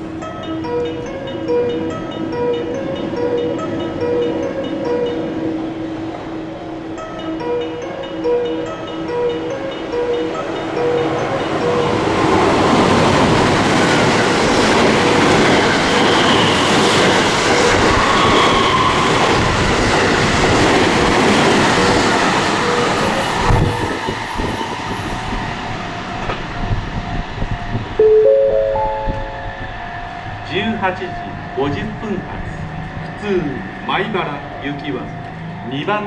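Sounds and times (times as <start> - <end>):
train passing at speed: 0.0 - 36.0.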